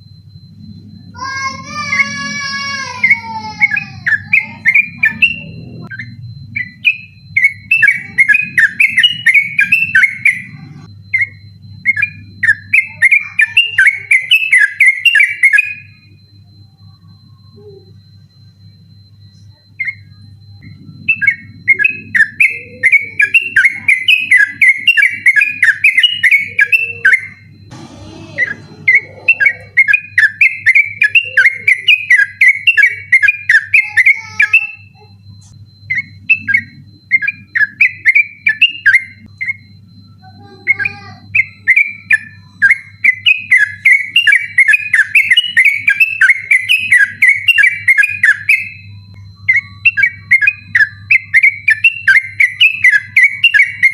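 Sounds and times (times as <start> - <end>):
bulbul chattering song: 0.0 - 53.9.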